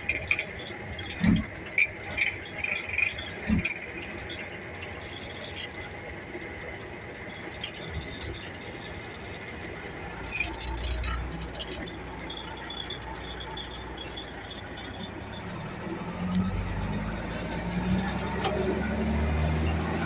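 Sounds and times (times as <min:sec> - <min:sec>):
truck cab rattling and clinking: 0:00.0 - 0:20.0
truck engine rumble: 0:00.0 - 0:20.0.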